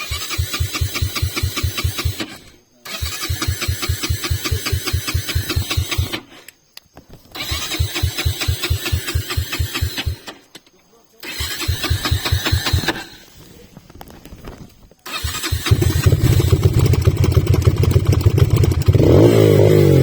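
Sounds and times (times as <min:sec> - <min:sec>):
motorcycle starter cranking engine: 0:00.0 - 0:06.4, 0:07.3 - 0:10.6, 0:11.2 - 0:13.5, 0:15.0 - 0:20.0.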